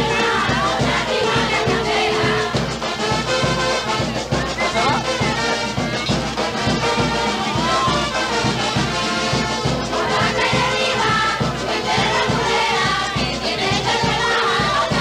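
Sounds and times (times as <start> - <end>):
brass band playing: 0.0 - 15.0
steady drum beat: 0.0 - 15.0.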